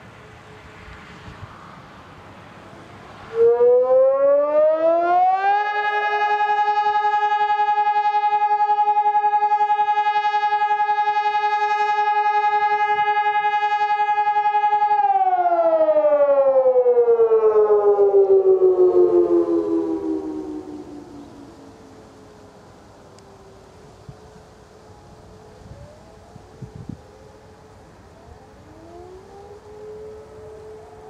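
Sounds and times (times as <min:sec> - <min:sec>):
electronic fire siren: 0:02.7 - 0:31.0.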